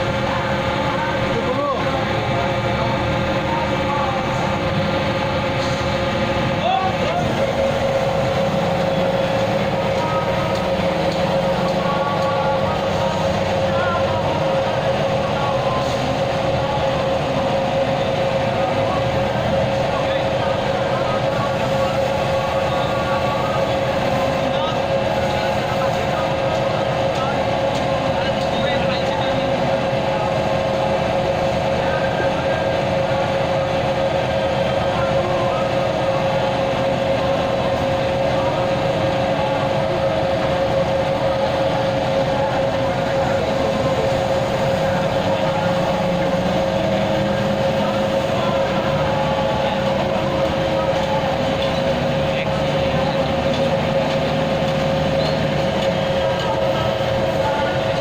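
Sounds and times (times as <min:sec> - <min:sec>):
heavy machinery droning hum: 0:00.0 - 0:58.0.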